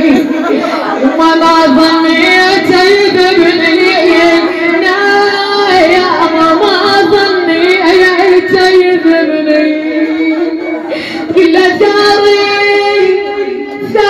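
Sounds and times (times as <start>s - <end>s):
woman singing a lament: 0.0s - 14.0s.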